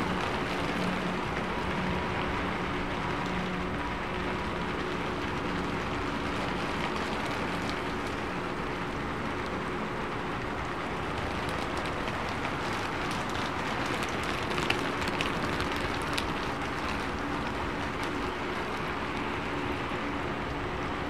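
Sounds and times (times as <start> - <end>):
faint steady hum: 0.0 - 21.0
steady rain falling: 0.0 - 21.0.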